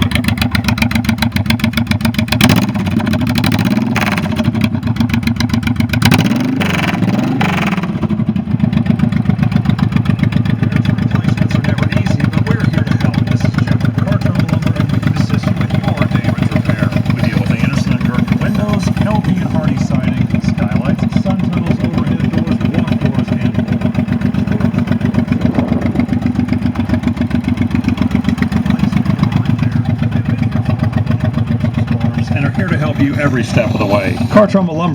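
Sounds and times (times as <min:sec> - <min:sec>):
motorcycle engine revving and idling: 0:00.0 - 0:34.9.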